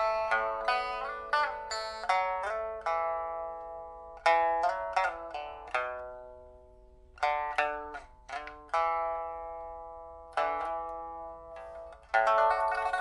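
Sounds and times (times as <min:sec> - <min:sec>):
pipa plucked notes: 0:00.0 - 0:13.0.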